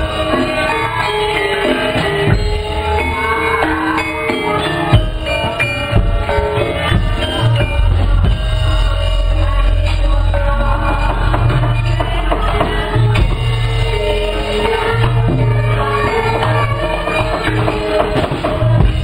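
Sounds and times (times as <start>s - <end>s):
drum strokes: 0.0s - 19.0s
gongs and metallophones ringing: 0.0s - 19.0s.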